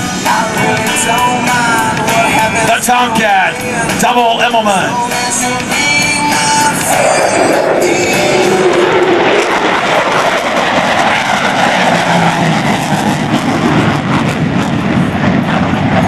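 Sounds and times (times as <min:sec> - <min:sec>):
fighter jet engines roaring: 0:00.0 - 0:16.0.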